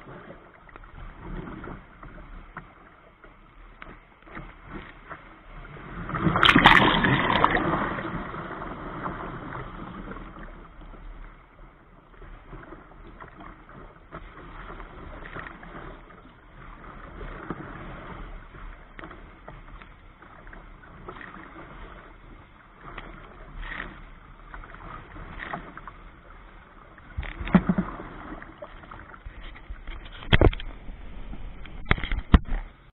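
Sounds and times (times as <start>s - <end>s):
rush of water: 0.0s - 32.9s
waves splashing around kayak: 0.0s - 32.9s.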